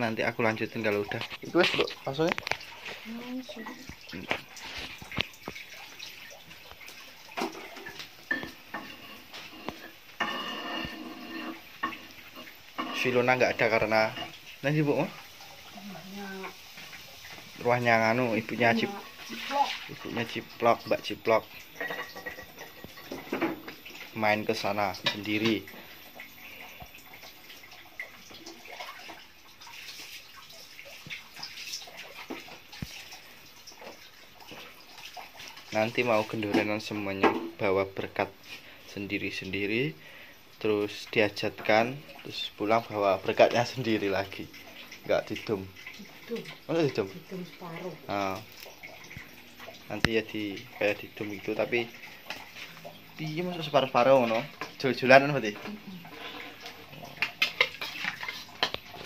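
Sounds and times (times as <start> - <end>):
broth bubbling: 0.0 - 59.0.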